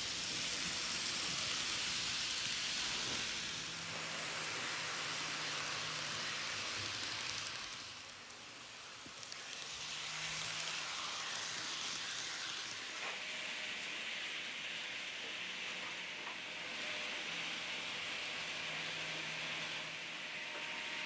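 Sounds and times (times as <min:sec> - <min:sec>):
model train whirring on track: 0:00.0 - 0:21.0.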